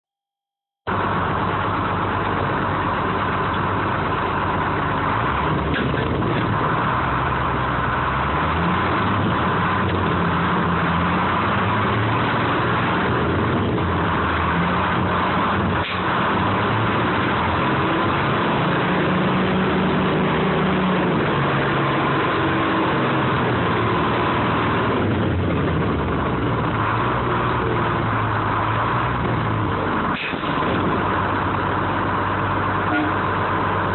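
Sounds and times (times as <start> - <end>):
crane engine running: 0.9 - 33.9.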